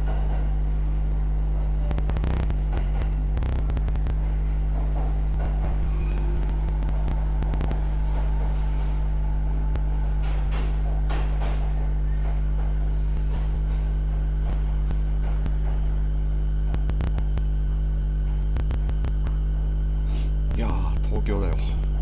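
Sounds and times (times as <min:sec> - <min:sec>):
train running hum: 0:00.0 - 0:22.0.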